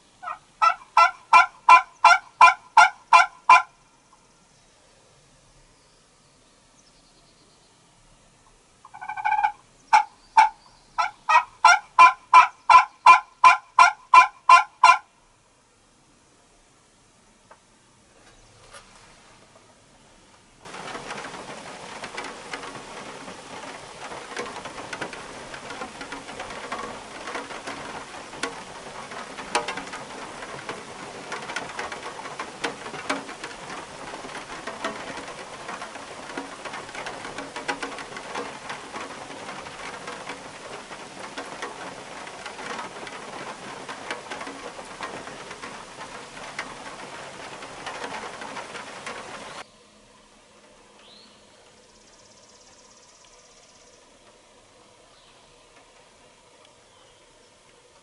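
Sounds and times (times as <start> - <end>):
steady rain patter: 0.0 - 6.9, 7.8 - 58.0.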